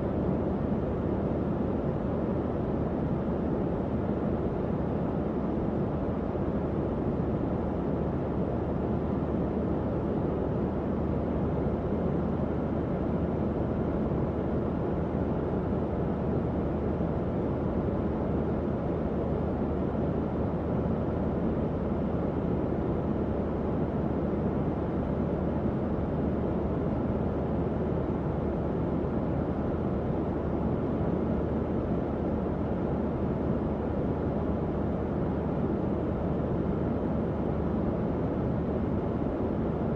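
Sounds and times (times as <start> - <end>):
faint fan hum: 0.0 - 39.9.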